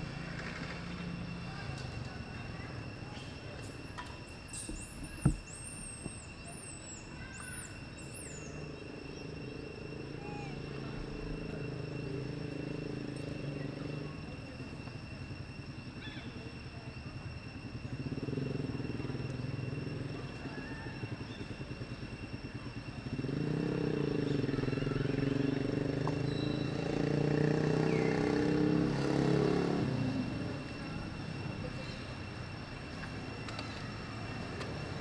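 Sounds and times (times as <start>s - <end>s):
engine running with pulsing note: 0.0s - 7.1s, 7.8s - 35.0s.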